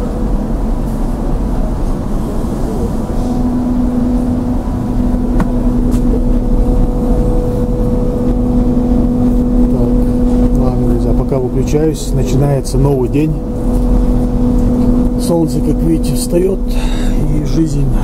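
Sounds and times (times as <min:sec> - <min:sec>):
ferry engines droning: 0:00.0 - 0:18.0
steady hum: 0:00.0 - 0:18.0.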